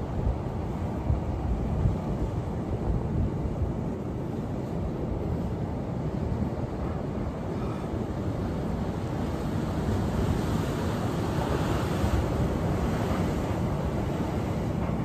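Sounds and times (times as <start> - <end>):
ocean surf washing: 0.0 - 15.0
wind rumbling on microphone: 0.0 - 15.0.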